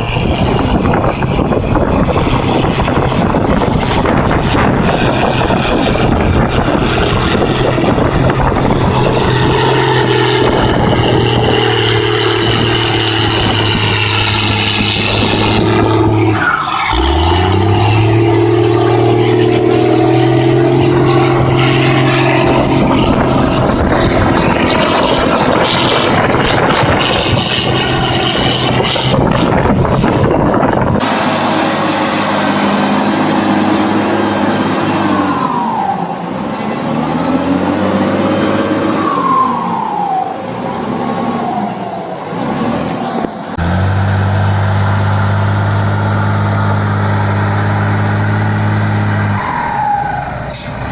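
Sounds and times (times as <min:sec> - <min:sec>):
diesel engine running loud: 0:00.0 - 0:50.9.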